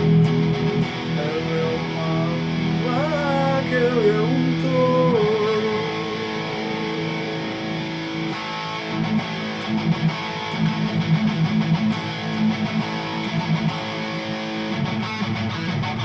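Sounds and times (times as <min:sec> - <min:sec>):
electric guitar strumming chords: 0:00.0 - 0:16.0.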